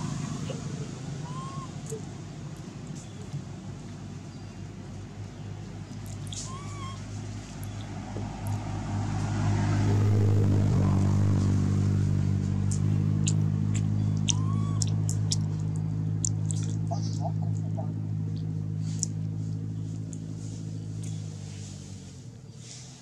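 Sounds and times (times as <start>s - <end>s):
motor engine humming: 0.0s - 22.3s.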